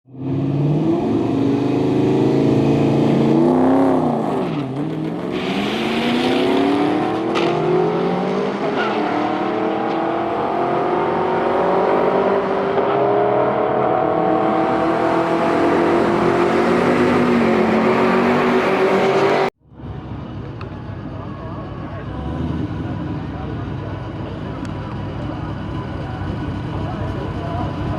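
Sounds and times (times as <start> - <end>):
car engine accelerating hard: 0.1 - 27.9.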